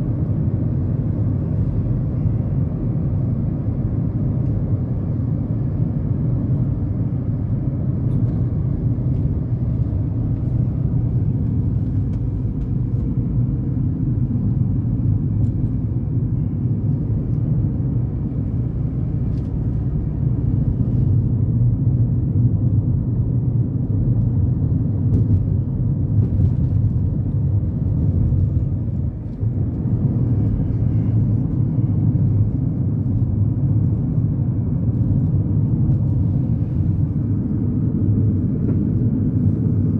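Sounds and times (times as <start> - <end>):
car cabin road rumble: 0.0 - 39.9.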